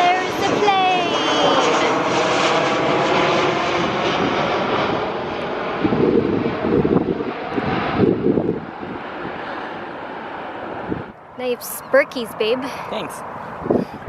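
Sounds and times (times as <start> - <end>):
airplane flying low overhead: 0.0 - 14.0.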